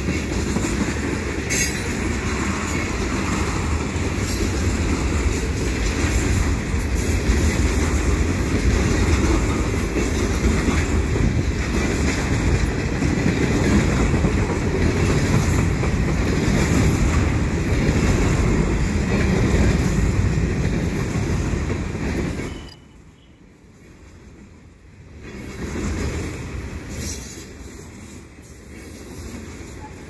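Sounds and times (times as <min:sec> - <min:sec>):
steel train wheels on rails: 0:00.0 - 0:30.0.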